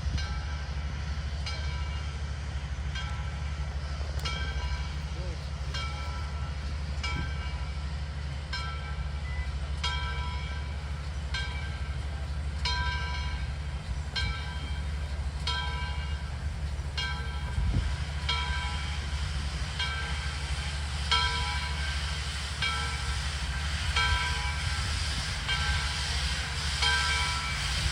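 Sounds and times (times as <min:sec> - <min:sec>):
diesel locomotive engine rumble: 0:00.0 - 0:27.9.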